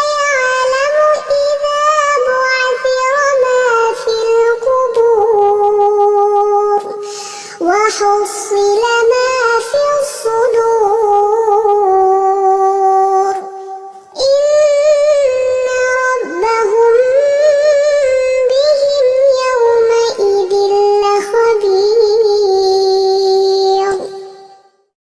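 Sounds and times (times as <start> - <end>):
melodic recitation in a high voice: 0.0 - 24.9.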